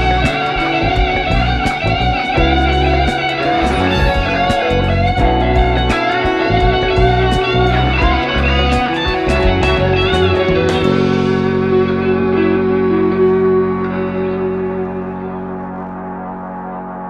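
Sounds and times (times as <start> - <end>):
electric guitar lead lines: 0.0 - 17.0
funk backing track: 0.0 - 17.0.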